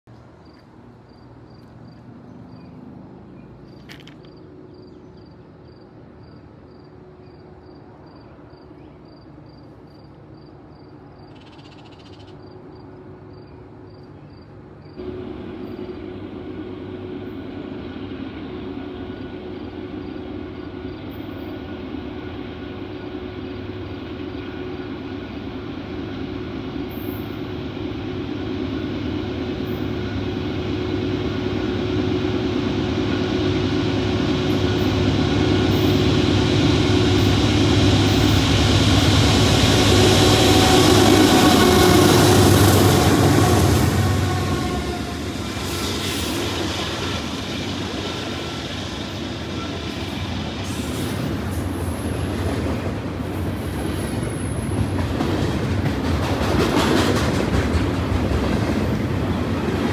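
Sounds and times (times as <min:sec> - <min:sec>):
diesel locomotive drone: 0:00.1 - 0:59.9.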